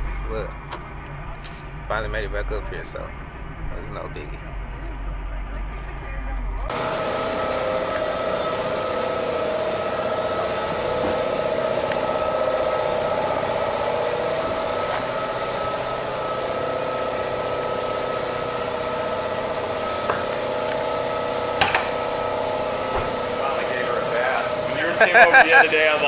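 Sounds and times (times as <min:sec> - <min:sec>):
high steady whine: 0:00.0 - 0:26.0
machine droning hum: 0:00.0 - 0:26.0.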